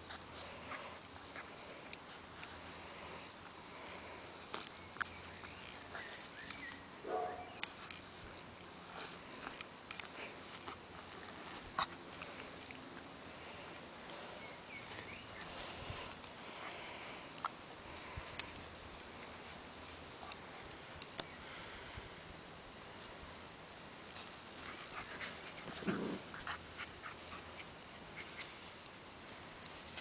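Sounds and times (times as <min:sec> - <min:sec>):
rustling in grass: 0:00.0 - 0:22.1, 0:22.7 - 0:30.0.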